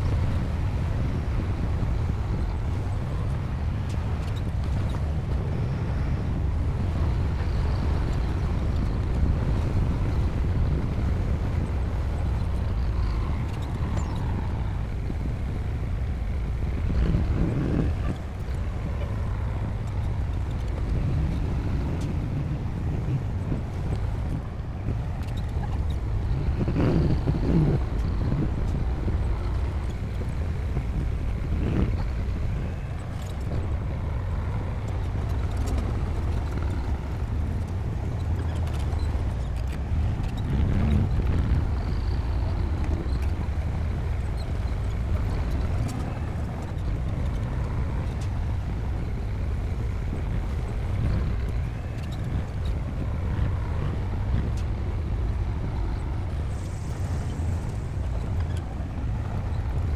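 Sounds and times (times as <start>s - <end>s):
diesel machinery engine rumble: 0.0s - 59.9s.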